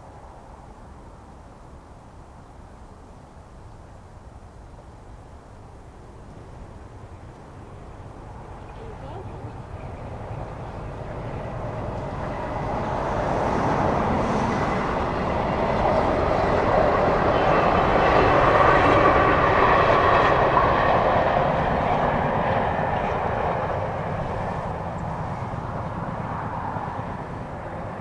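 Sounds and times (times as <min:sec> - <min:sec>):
train passing: 0:05.0 - 0:28.0.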